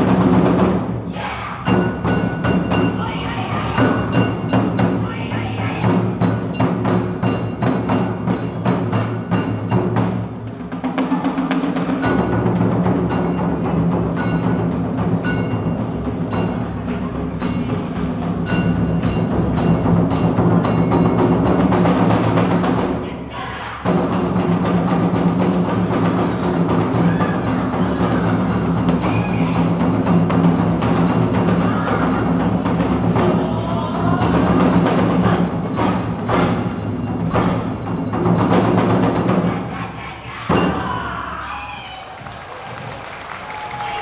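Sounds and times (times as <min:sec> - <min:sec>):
drums playing: 0:00.0 - 0:41.4
hand gong struck rhythmically: 0:01.6 - 0:10.5, 0:11.8 - 0:23.1, 0:23.8 - 0:39.6.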